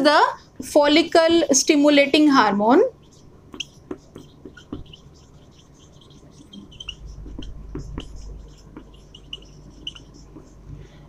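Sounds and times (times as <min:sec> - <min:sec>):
marker squeaking on whiteboard: 0:00.0 - 0:10.7.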